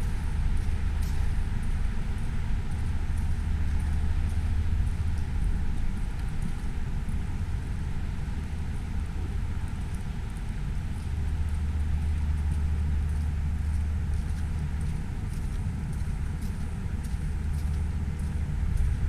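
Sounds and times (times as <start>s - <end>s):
city road traffic rumble: 0.0s - 19.0s
faint light ticks: 0.0s - 19.0s.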